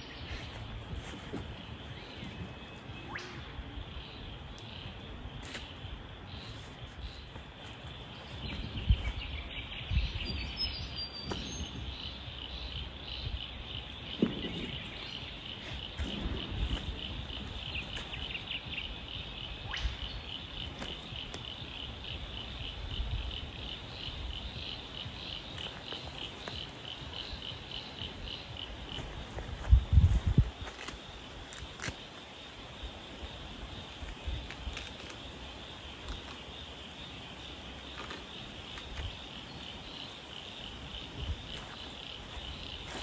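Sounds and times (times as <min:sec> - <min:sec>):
bird chirp: 0:00.0 - 0:43.0
insect chirping: 0:00.0 - 0:43.0.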